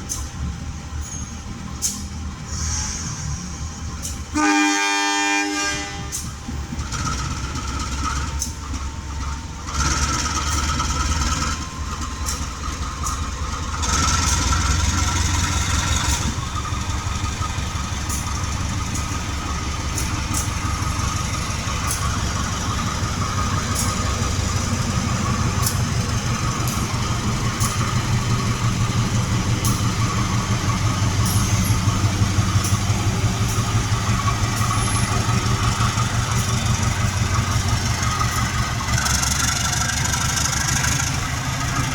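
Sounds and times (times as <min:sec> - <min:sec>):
large diesel engine idling: 0:00.0 - 0:41.9.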